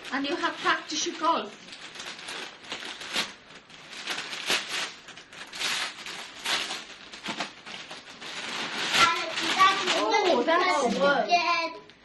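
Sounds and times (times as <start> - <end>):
wrapping paper crinkling and tearing: 0.0 - 11.4.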